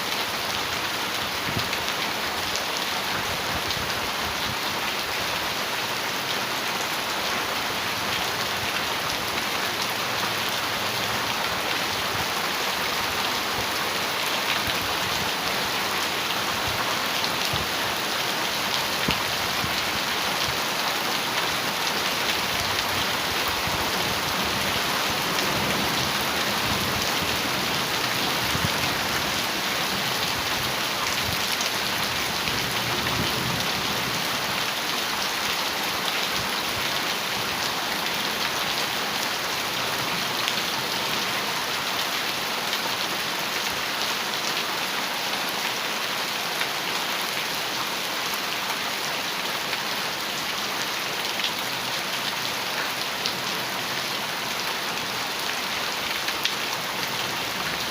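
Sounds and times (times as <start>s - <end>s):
heavy rain on a metal roof: 0.0s - 57.9s.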